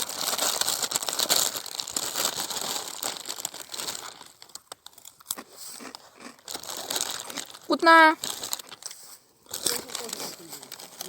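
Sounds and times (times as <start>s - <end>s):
crisp packet crinkling: 0.0s - 11.0s.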